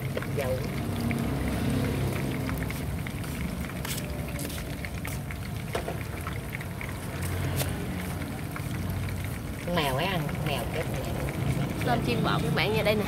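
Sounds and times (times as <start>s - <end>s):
fritters sizzling in oil: 0.0s - 13.0s
oil crackling and popping: 0.0s - 13.0s.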